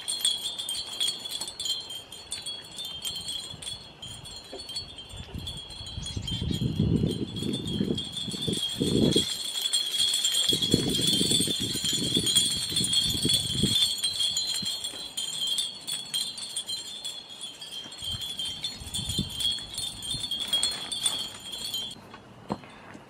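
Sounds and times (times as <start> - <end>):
wind chimes tinkling: 0.0 - 22.6.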